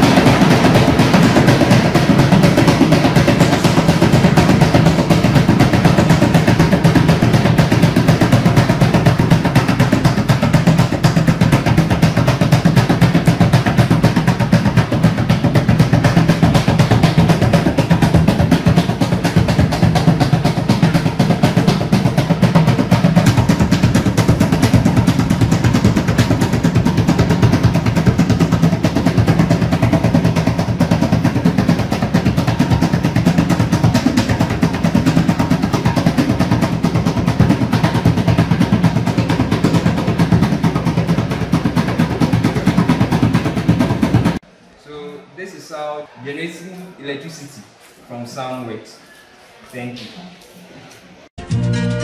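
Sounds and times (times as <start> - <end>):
hand drum booming strokes: 0.0 - 44.4.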